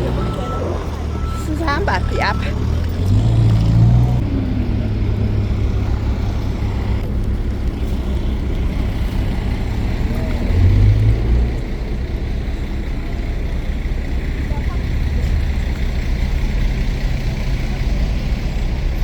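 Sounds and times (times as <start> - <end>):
large vehicle engine humming: 0.0 - 19.0.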